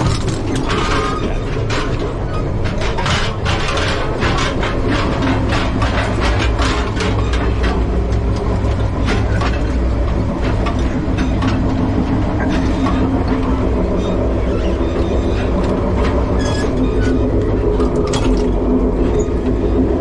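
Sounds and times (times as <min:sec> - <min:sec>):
steady drone: 0:00.0 - 0:20.0
train rumbling on rails: 0:00.0 - 0:20.0
wheels clicking over track: 0:00.0 - 0:20.0.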